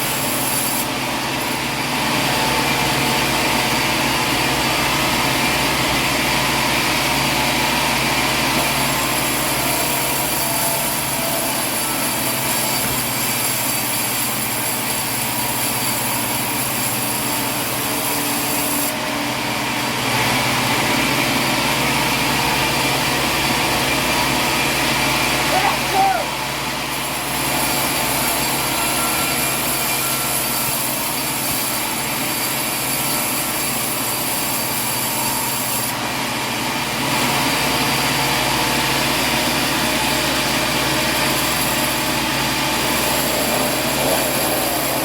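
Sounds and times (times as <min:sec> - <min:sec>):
sawmill machinery running: 0:00.0 - 0:45.0.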